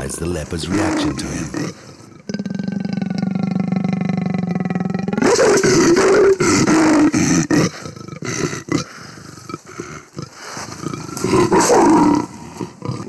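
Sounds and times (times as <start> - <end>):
leopard snarling and growling: 0.0 - 13.0.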